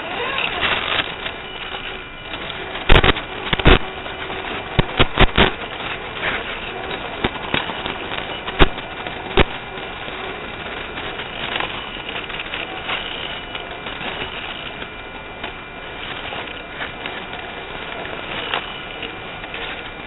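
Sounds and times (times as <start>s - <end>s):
toy truck drivetrain whirring: 0.0s - 20.0s.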